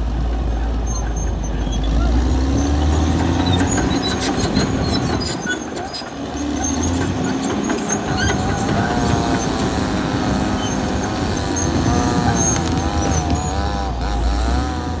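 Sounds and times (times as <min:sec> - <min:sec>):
bulldozer diesel engine rumbling: 0:00.0 - 0:15.0
wavering machine squeal: 0:00.6 - 0:15.0.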